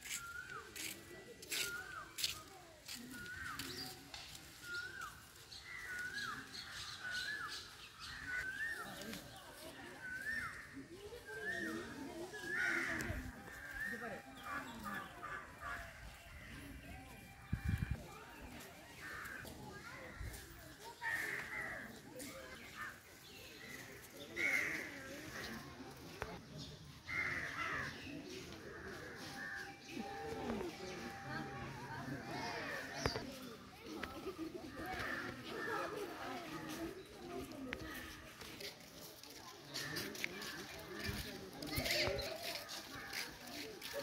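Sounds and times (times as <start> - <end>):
faint background chatter: 0.0 - 44.0.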